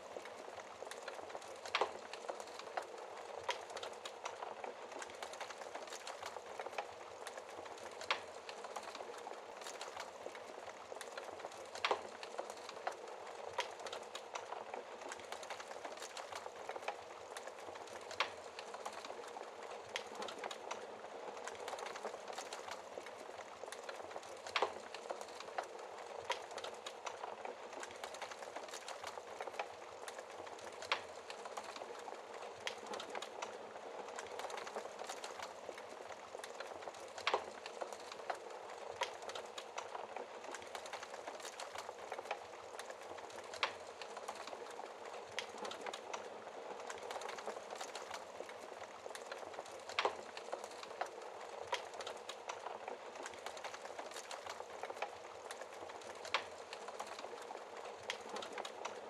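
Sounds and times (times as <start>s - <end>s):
wood fire crackling: 0.0s - 59.0s
fire popping: 0.1s - 59.0s.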